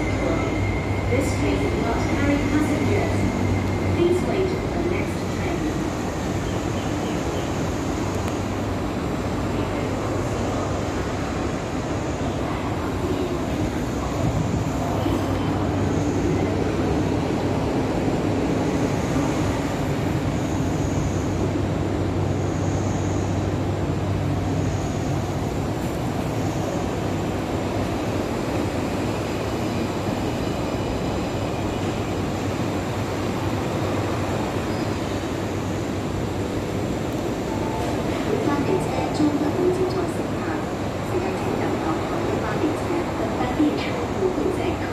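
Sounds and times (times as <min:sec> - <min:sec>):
electric train rumbling: 0:00.0 - 0:44.9.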